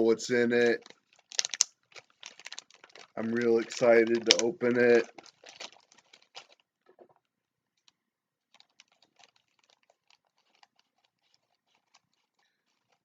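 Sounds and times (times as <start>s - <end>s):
package crinkling and clicking: 0.6s - 13.0s.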